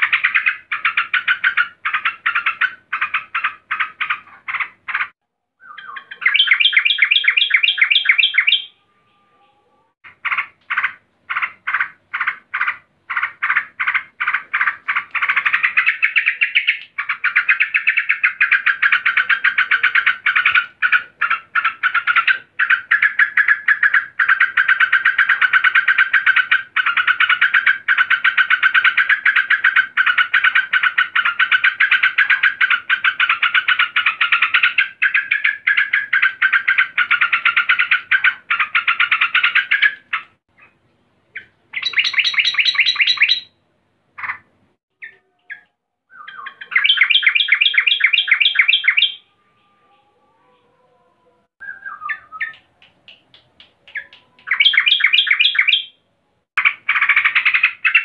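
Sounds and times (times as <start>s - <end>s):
bird rapid chattering calls: 0.0s - 8.7s, 10.1s - 43.6s, 46.2s - 49.2s, 53.3s - 56.0s, 56.6s - 58.0s.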